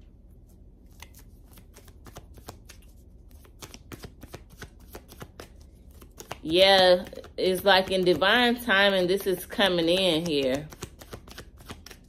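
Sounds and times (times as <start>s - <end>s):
cards being shuffled: 0.4s - 12.0s.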